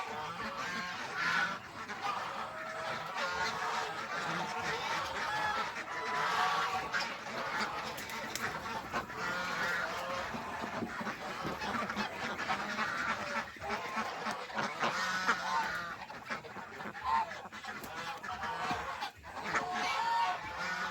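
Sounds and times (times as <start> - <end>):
geese honking: 0.0 - 20.9.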